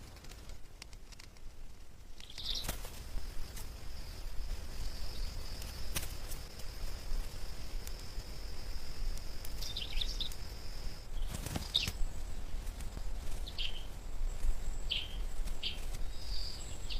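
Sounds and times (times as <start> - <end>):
small bird chirping: 2.1 - 16.9.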